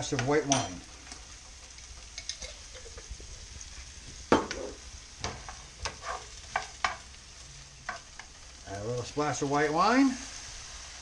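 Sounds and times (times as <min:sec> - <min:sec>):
shrimp sizzling in skillet: 0:00.0 - 0:11.0.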